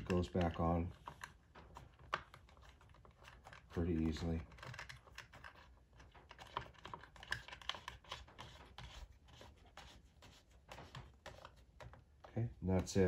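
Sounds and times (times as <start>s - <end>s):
plastic cover clicks and scrapes: 0.0s - 13.0s.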